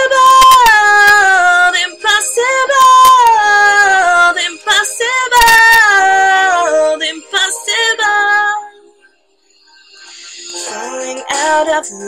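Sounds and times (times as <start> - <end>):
woman singing with vibrato: 0.0 - 8.8, 10.4 - 12.0.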